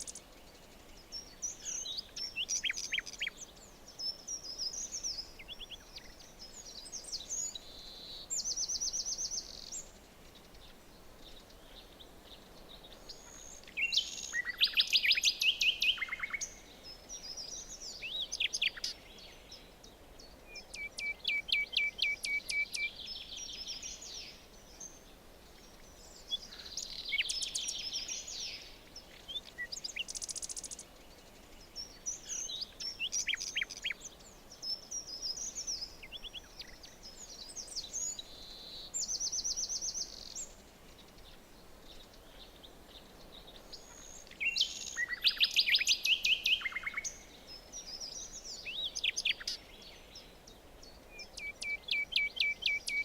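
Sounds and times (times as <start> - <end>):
faint steady hiss: 0.0 - 53.0
songbirds chirping and trilling: 0.0 - 53.0.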